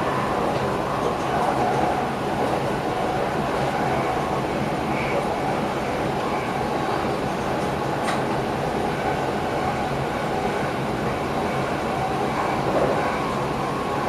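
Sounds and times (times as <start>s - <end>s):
train rumble and rail noise: 0.0s - 14.0s.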